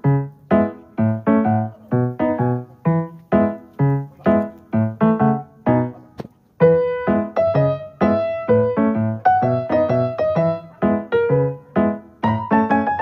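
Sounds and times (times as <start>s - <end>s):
piano playing: 0.0s - 13.0s.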